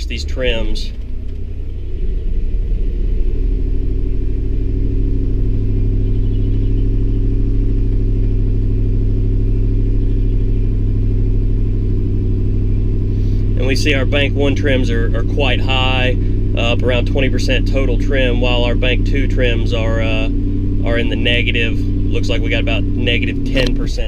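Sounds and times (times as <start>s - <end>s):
misfiring engine running: 0.0s - 24.0s.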